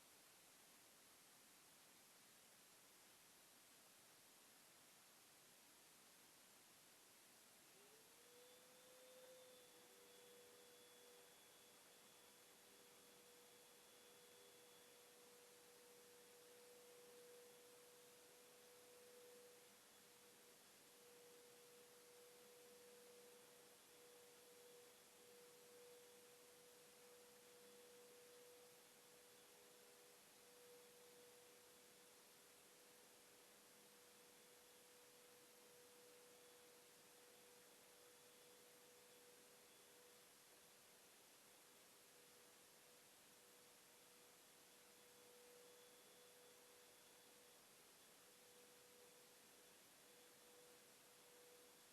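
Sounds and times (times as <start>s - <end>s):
faint hiss: 0.0s - 51.9s
thin steady high hum: 0.0s - 51.9s.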